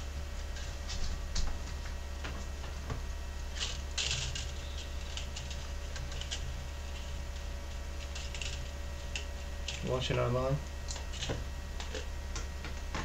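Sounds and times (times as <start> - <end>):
plastic filament spool rustling: 0.3 - 12.2.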